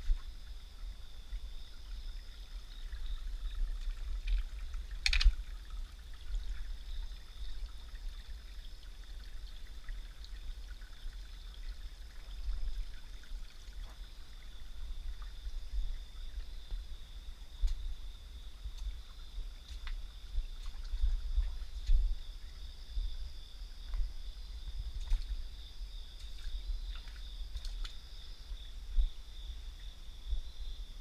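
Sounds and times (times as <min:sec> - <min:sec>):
water trickling over rocks: 0:00.0 - 0:30.0.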